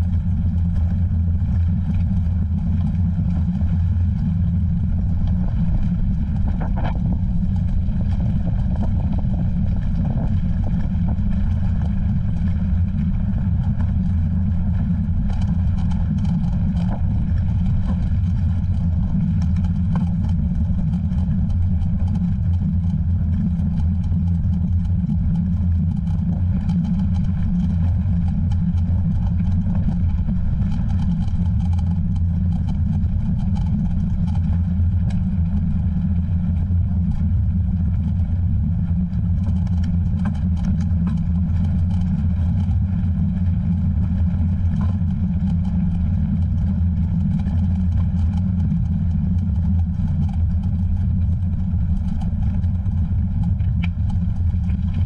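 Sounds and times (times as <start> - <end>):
faint clicks and rattles: 0.0 - 55.0
wind buffeting microphone: 0.0 - 55.0.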